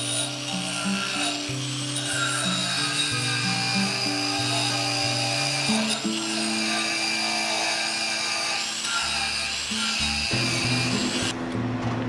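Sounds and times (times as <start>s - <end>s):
angle grinder wire wheel whirring: 0.0s - 11.4s.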